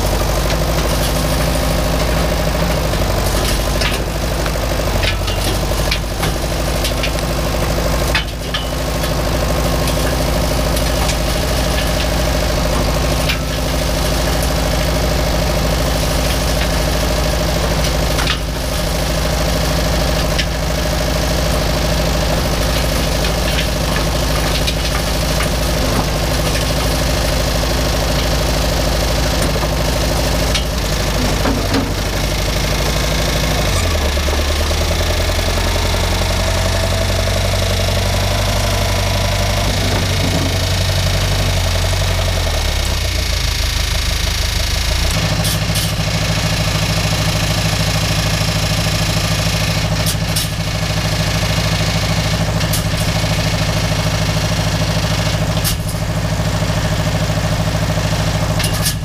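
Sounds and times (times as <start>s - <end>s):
backhoe engine running: 0.0s - 59.0s.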